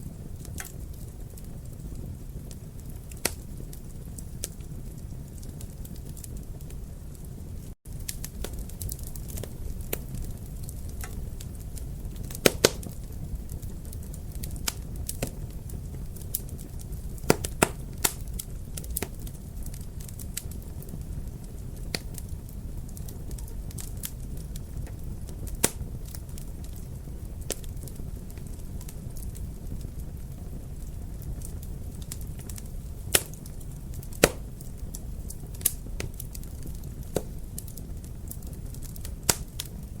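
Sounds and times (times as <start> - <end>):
fire rumbling: 0.0 - 40.0
wood fire pops and crackles: 0.0 - 40.0.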